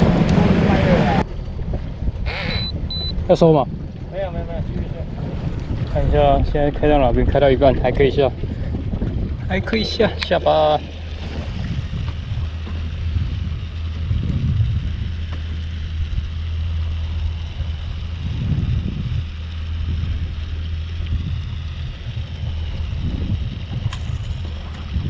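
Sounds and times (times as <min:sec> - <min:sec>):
boat engine hum: 0:00.0 - 0:25.0
wind buffeting microphone: 0:00.0 - 0:25.0.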